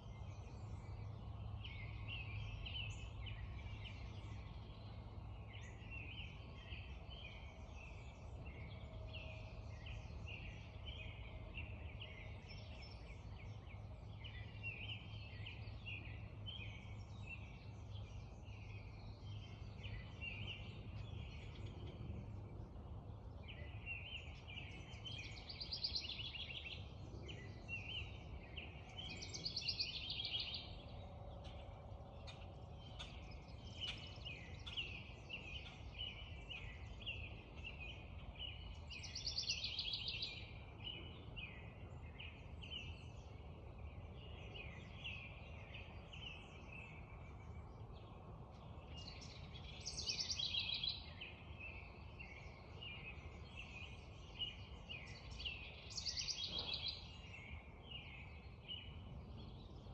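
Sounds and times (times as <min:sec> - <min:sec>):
birds chirping: 0:00.0 - 0:59.9
low steady rumble: 0:00.0 - 0:59.9.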